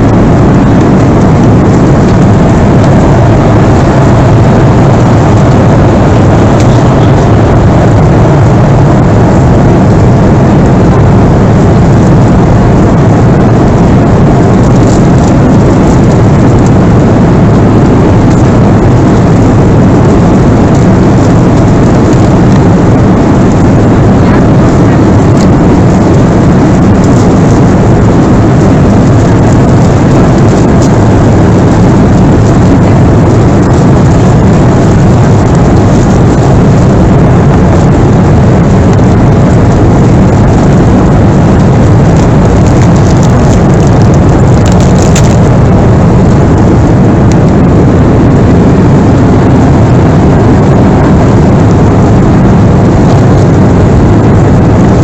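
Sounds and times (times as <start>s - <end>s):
jet engine cabin roar: 0.0s - 55.0s
rushing airflow: 0.0s - 55.0s.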